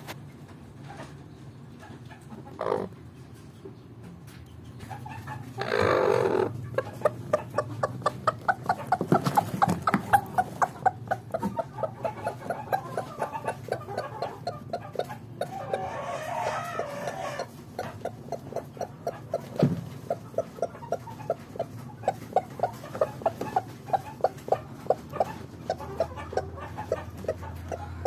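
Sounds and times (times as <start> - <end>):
hen clucking: 1.8 - 3.2, 4.6 - 28.0
hen squawking: 5.3 - 28.0.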